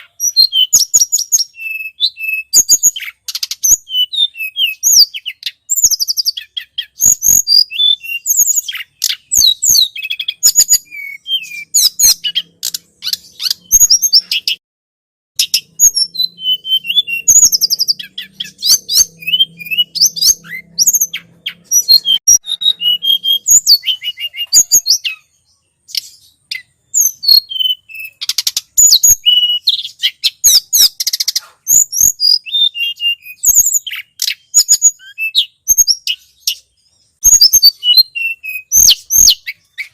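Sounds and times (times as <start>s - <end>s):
bird chirping rapidly: 0.0s - 14.6s, 15.4s - 39.9s.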